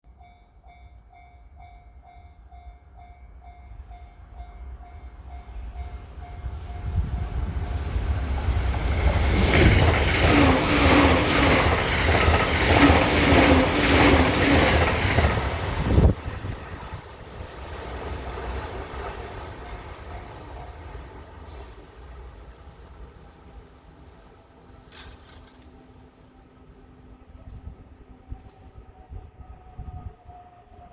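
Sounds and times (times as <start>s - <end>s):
train rumble: 0.1s - 30.9s.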